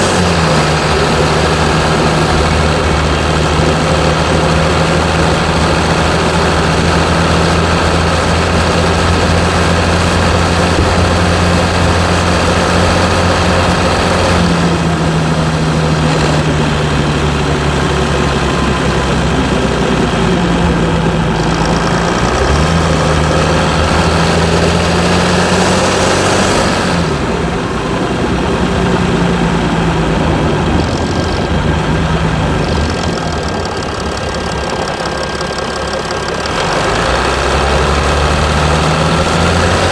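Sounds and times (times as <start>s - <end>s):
diesel engine rough idle: 0.0s - 39.9s.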